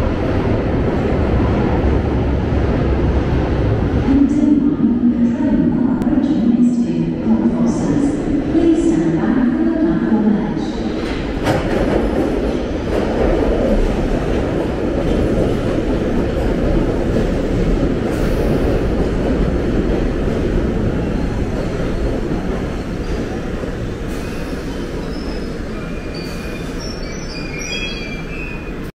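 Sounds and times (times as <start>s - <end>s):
train wheels rumbling on rail: 5.2s - 28.9s.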